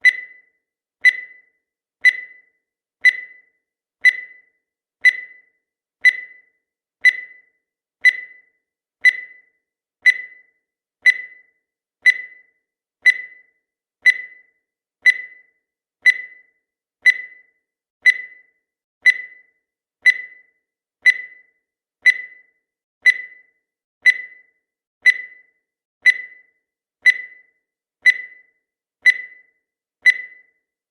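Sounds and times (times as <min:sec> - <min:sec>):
short high-pitched timer beeps: 0:00.0 - 0:30.7.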